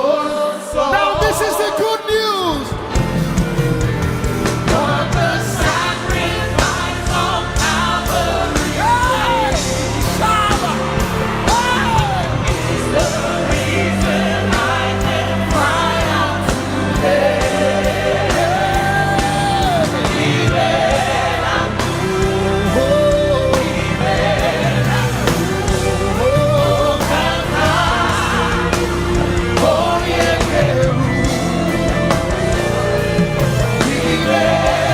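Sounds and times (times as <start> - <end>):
band playing gospel music: 0.0 - 34.9
voices singing: 0.0 - 34.9.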